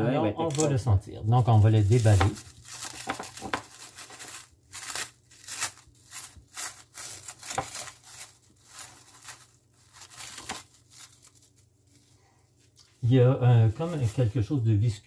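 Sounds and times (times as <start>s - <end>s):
cling film crackling: 1.3s - 14.5s.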